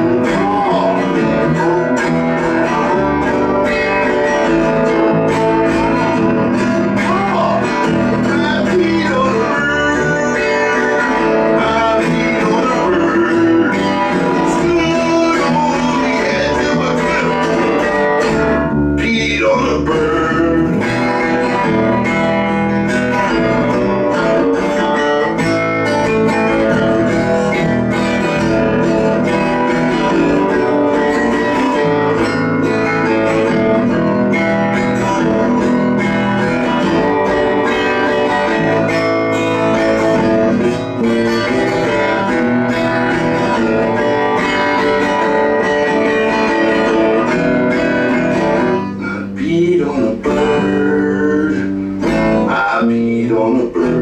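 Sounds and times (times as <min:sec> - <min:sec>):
guitar picking: 0:00.0 - 0:54.0
low bass notes: 0:00.0 - 0:54.0.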